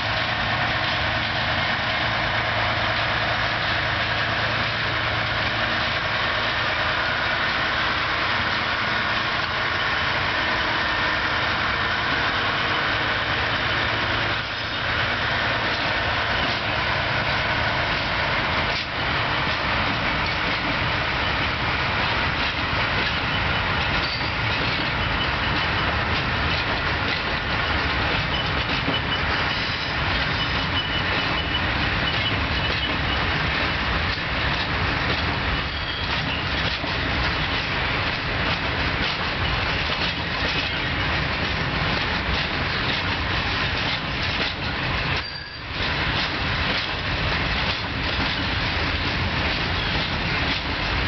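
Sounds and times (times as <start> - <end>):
freight wagons rumbling: 0.0 - 51.0
wheels clattering over rail joints: 2.7 - 51.0.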